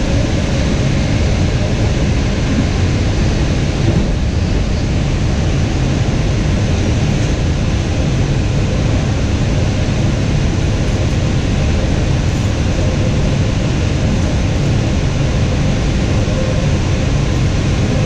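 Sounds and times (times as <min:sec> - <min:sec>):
train car rolling noise: 0:00.0 - 0:18.0.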